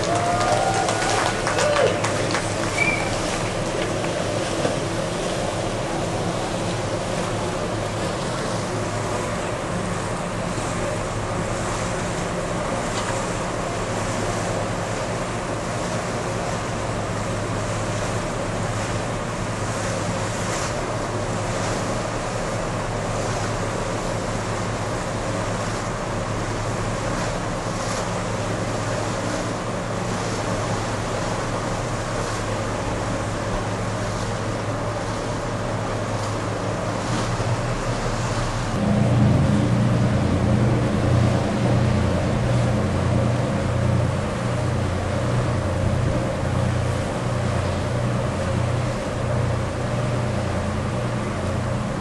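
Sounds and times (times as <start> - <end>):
rushing water: 0.0 - 52.0
ship low hum: 0.0 - 52.0
wind: 0.0 - 52.0.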